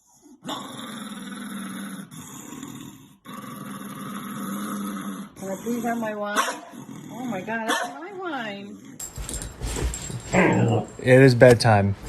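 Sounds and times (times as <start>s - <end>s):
dog growling: 0.0s - 9.1s, 10.3s - 10.9s.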